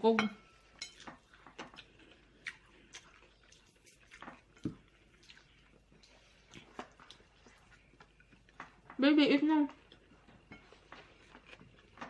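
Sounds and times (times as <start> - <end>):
chewing with wet smacks: 0.9 - 9.0, 9.7 - 12.0.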